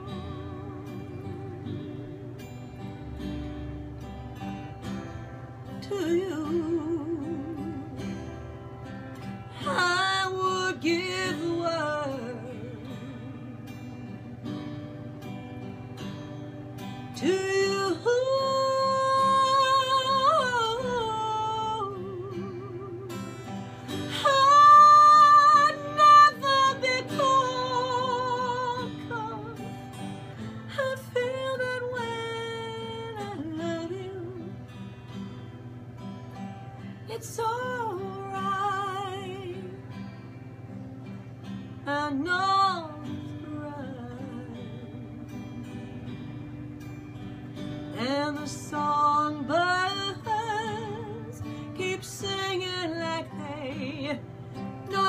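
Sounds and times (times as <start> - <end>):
woman singing a slow ballad: 0.0 - 2.6, 4.4 - 8.6, 9.2 - 15.4, 16.8 - 35.3, 36.8 - 40.4, 41.0 - 55.0
acoustic guitar: 0.0 - 55.0.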